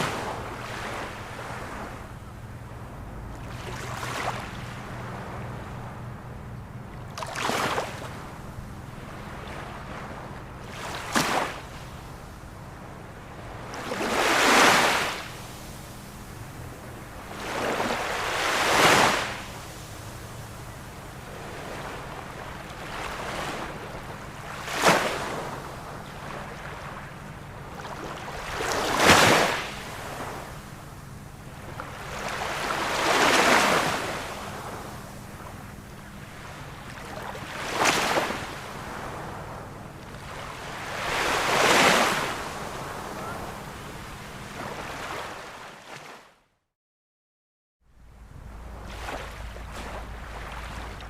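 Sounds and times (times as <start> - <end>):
background hiss of sea: 0.0 - 45.4
surf waves breaking: 0.0 - 46.3, 48.2 - 51.0.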